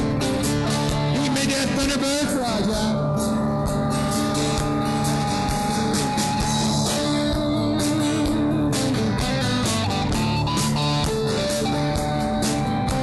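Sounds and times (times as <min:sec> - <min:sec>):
acoustic and electric guitars: 0:00.0 - 0:13.0
bass guitar: 0:00.0 - 0:13.0
drum kit beat: 0:00.0 - 0:13.0.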